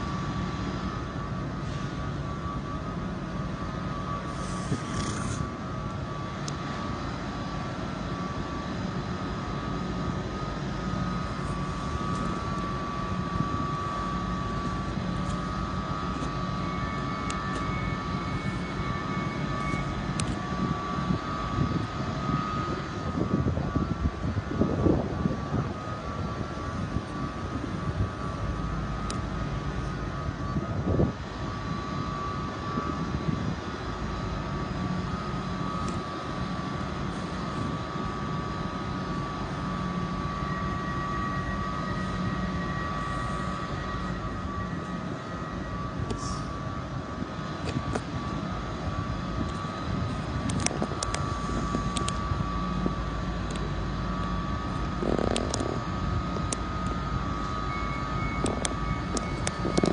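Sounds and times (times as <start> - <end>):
train hum with whining tones: 0.0 - 59.9.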